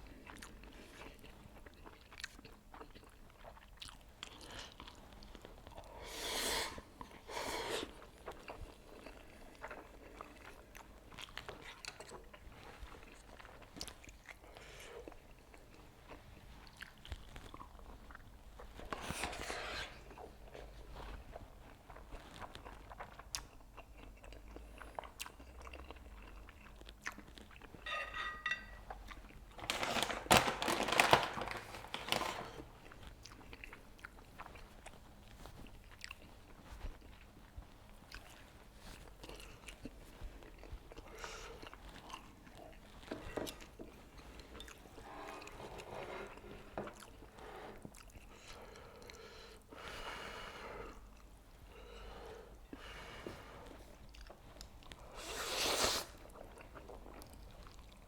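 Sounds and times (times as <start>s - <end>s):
person chewing noodles: 0.0s - 27.9s, 28.6s - 29.6s, 32.5s - 58.0s.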